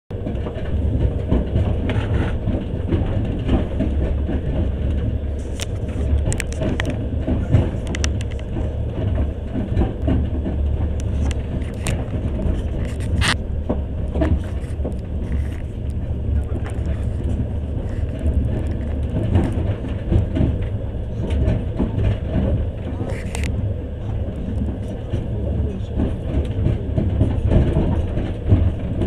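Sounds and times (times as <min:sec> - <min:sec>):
train interior rumble: 0:00.1 - 0:29.0
sharp clicks and rattles: 0:00.2 - 0:29.0.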